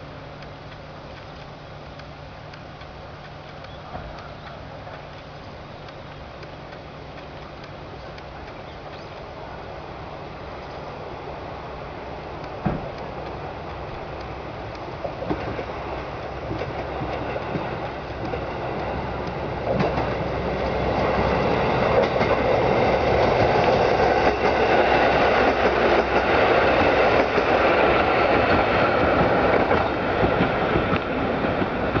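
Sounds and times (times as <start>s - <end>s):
diesel railcar running: 0.0s - 32.0s
wheels clicking over rail joints: 0.0s - 32.0s.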